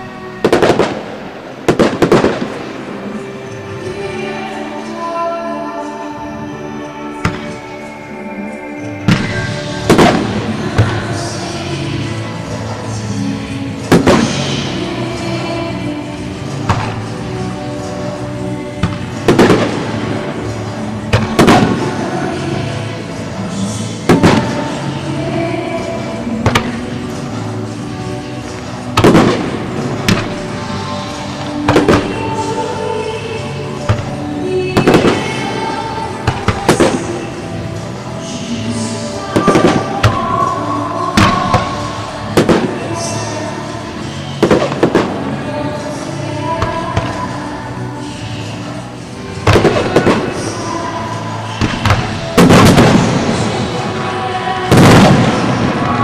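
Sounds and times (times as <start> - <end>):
fireworks bursting with sharp bangs: 0.0 - 3.8, 8.8 - 15.3, 16.1 - 45.8, 46.6 - 47.4, 48.2 - 56.0
music playing: 0.0 - 56.0.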